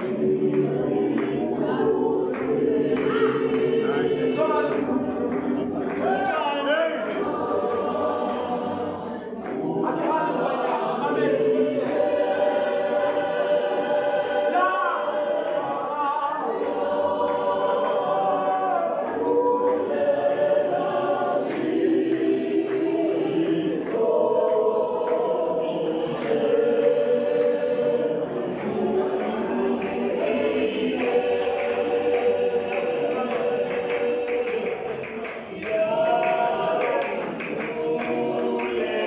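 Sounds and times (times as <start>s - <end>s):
choir singing a cappella: 0.0s - 39.0s.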